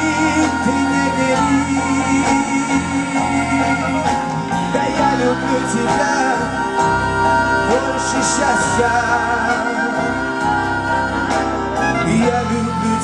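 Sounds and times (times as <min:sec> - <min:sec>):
man singing: 0:00.0 - 0:06.7, 0:07.6 - 0:10.3, 0:11.7 - 0:13.0
live band playing slow ballad: 0:00.0 - 0:13.0.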